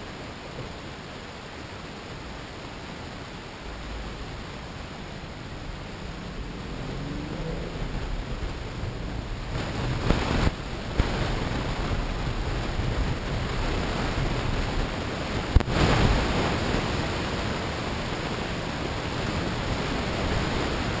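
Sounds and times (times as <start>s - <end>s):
car road noise: 1.4s - 21.0s.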